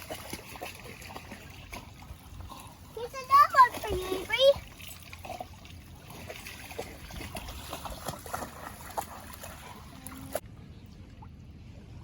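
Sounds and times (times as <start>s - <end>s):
shallow water splashing: 0.0s - 12.0s.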